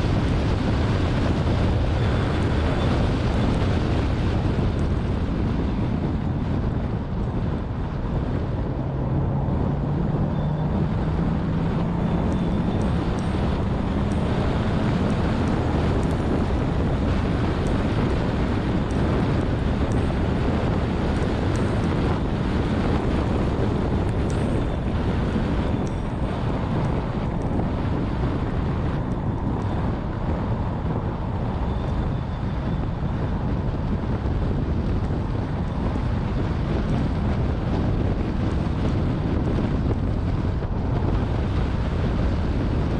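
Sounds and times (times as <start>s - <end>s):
car engine accelerating: 0.0s - 42.9s
road and tyre rumble: 0.0s - 42.9s
wind buffeting microphone: 0.0s - 42.9s.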